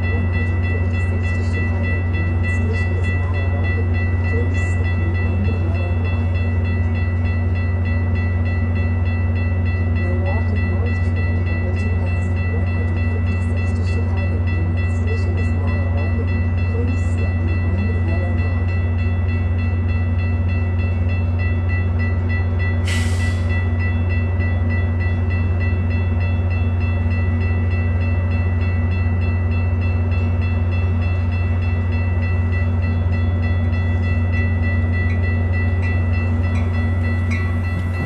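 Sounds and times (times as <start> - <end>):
diesel train engine idling: 0.0 - 38.0.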